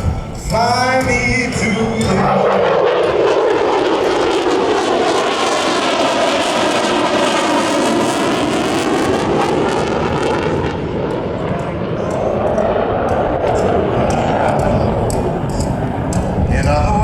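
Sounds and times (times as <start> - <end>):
jet fly-by roar: 0.0 - 17.0.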